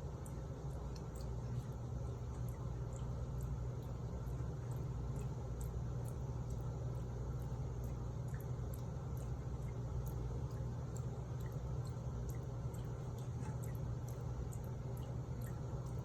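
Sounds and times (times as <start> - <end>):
water drips and splashes: 0.0 - 16.0.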